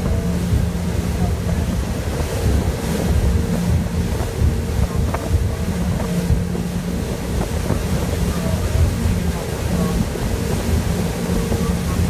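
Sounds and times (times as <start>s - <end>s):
boat engine hum: 0.0s - 12.0s
water rushing past hull: 0.0s - 12.0s
wind buffeting microphone: 0.0s - 12.0s.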